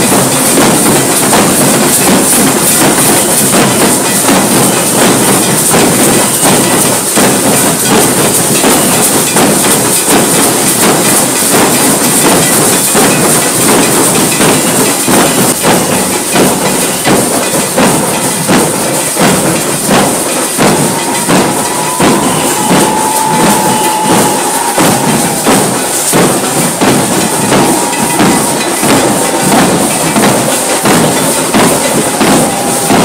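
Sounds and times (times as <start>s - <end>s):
large drums beaten with sticks: 0.0s - 33.0s.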